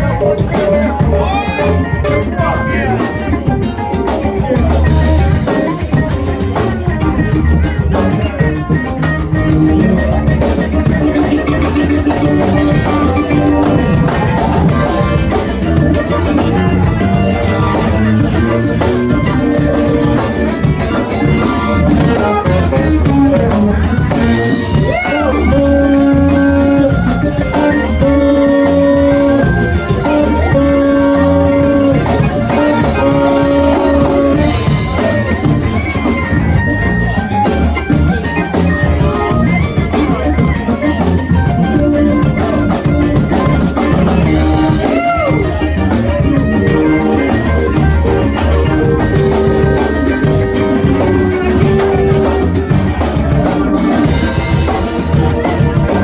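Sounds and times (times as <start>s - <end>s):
funk band playing: 0.0s - 56.0s.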